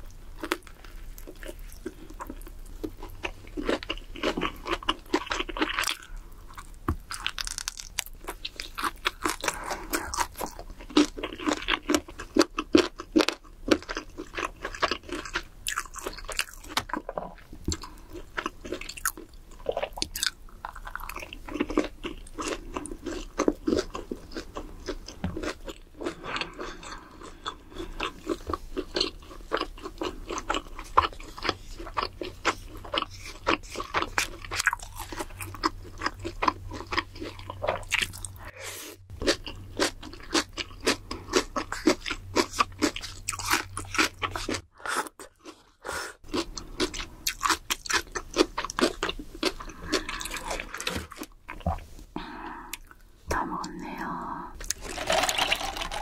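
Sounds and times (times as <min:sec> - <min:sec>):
crunching bites and chewing: 0:00.4 - 0:38.4, 0:39.1 - 0:51.8.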